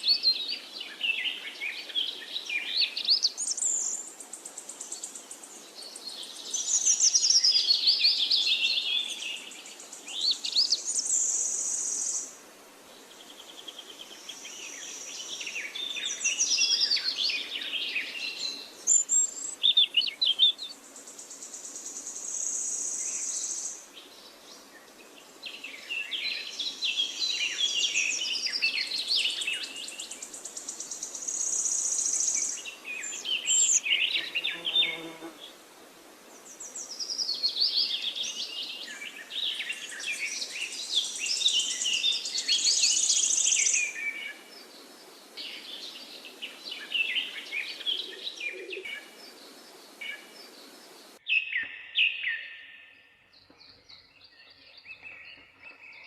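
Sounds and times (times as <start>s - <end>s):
songbirds singing: 0.0s - 35.6s, 36.2s - 56.0s.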